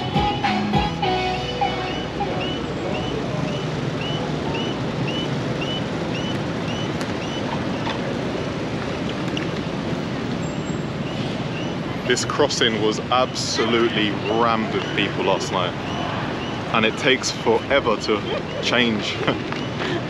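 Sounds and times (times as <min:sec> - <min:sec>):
crossing signal chirping: 0:00.0 - 0:08.1, 0:08.9 - 0:20.0
city traffic noise: 0:00.0 - 0:20.0.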